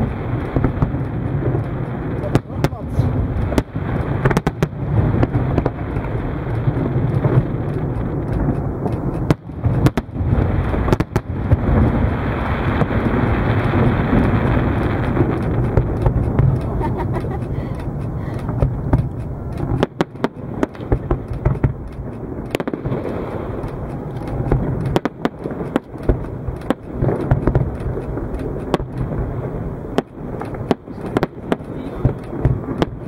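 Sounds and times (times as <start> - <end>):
fireworks bursting: 0.0 - 33.0.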